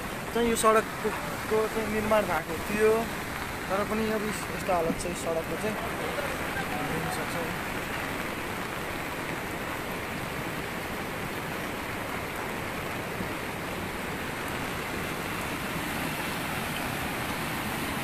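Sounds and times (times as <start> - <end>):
rain falling: 0.0 - 18.0
river rushing: 0.0 - 18.0.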